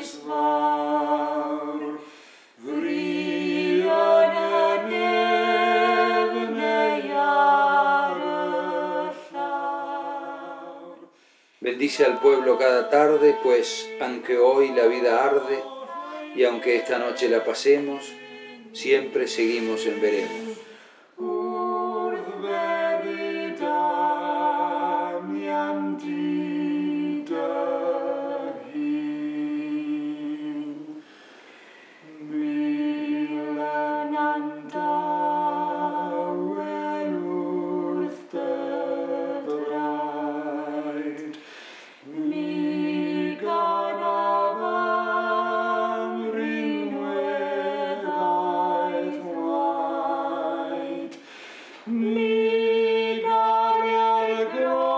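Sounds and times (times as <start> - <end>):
woman and man singing in harmony: 0.0 - 54.9.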